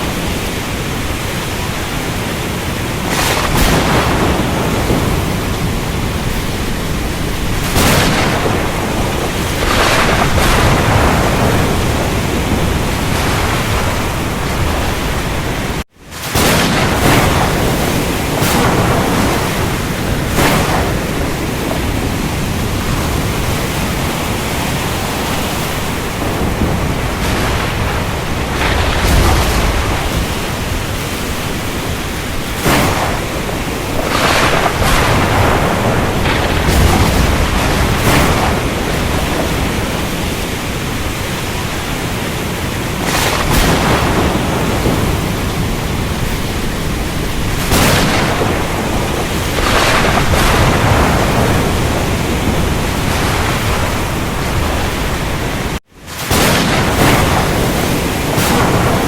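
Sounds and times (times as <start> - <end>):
rain: 0.0 - 59.0
surf rushing: 0.0 - 59.0
thunder cracks: 0.0 - 59.0.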